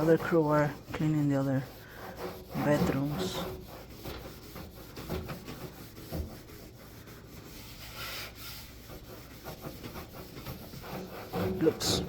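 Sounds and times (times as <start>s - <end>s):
cloth scrubbing stainless steel: 0.0s - 12.0s.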